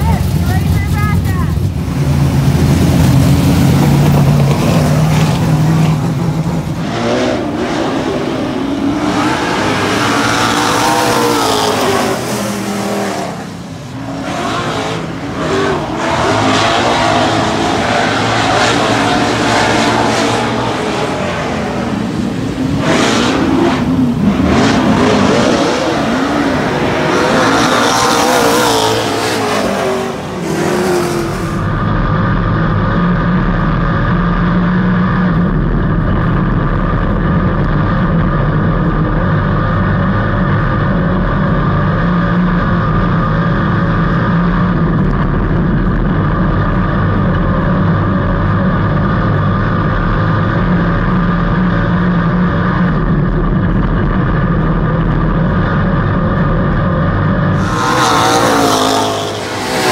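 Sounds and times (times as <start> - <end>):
race car engine drone: 0.0 - 59.9
race car engines revving: 0.0 - 59.9.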